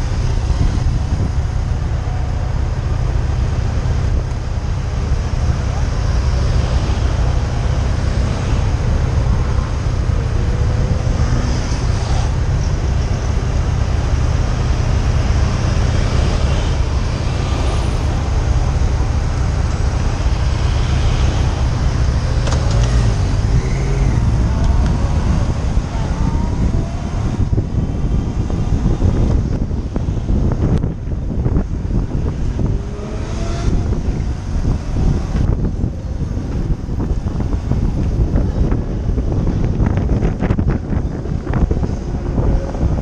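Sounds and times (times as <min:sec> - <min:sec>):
passing vehicles: 0:00.0 - 0:43.0
wind on microphone: 0:00.0 - 0:43.0.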